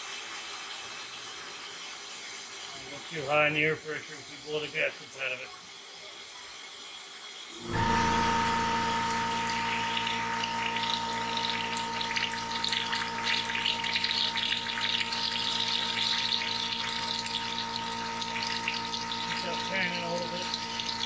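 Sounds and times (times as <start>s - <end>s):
air compressor humming with hiss: 0.0s - 21.0s.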